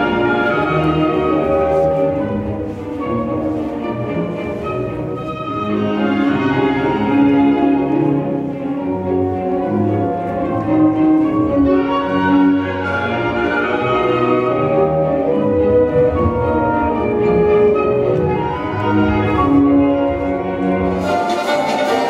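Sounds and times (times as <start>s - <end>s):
orchestral strings melody: 0.0s - 22.0s.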